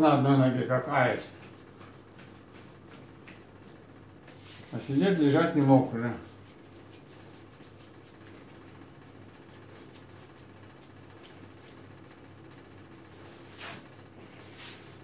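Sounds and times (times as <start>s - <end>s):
low steady hum: 0.0s - 15.0s
hands rubbing skin: 1.2s - 15.0s.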